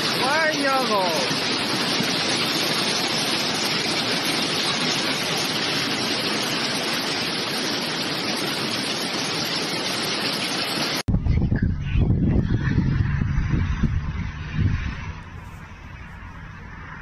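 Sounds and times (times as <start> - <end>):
floodwater rushing: 0.0 - 11.0, 13.0 - 17.0.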